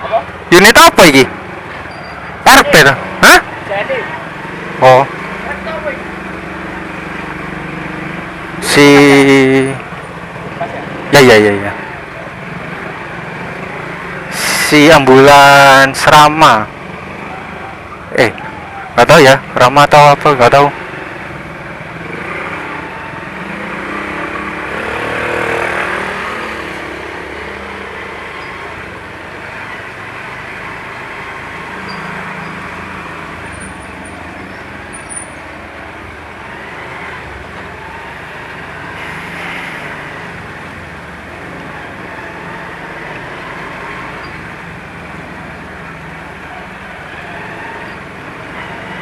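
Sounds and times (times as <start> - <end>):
road traffic engine noise: 0.0 - 49.0.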